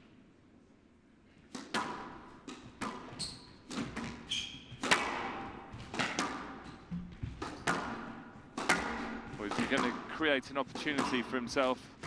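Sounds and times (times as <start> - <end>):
squash ball hitting rackets and walls: 1.4 - 12.0
court shoes squeaking: 1.5 - 12.0.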